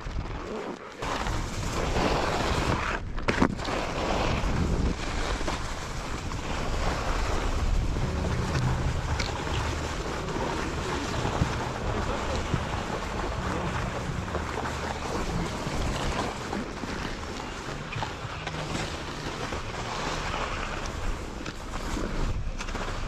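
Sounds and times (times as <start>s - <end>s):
skis scraping over snow: 0.0s - 23.0s
wind on microphone: 0.0s - 23.0s.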